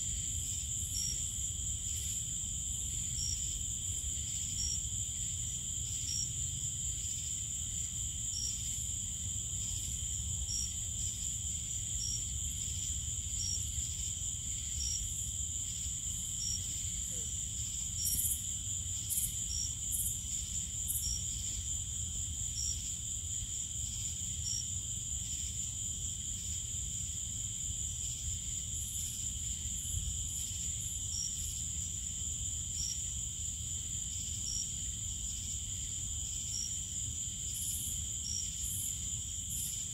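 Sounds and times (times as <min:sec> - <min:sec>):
crickets trilling: 0:00.0 - 0:39.9
insect chirping: 0:00.0 - 0:39.9.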